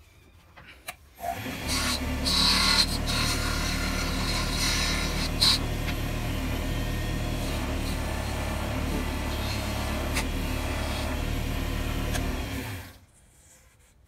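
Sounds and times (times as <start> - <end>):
wood lathe humming: 1.2 - 13.0.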